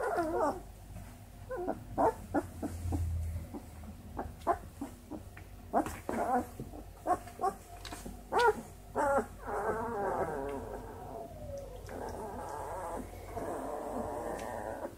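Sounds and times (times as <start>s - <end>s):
puppies squeaking and whining: 0.0s - 0.6s, 1.5s - 14.9s.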